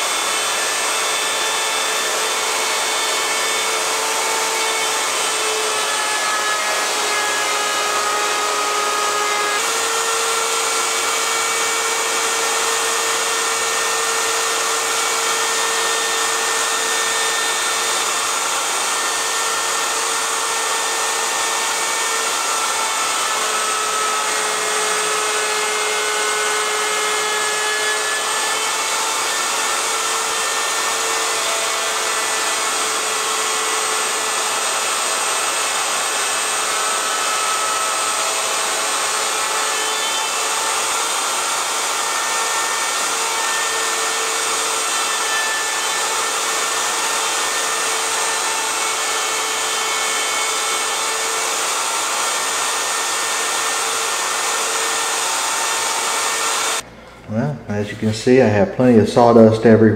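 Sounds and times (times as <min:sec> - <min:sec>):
dust vacuum running: 0:00.0 - 0:56.8
router cutting wood: 0:00.0 - 0:56.8.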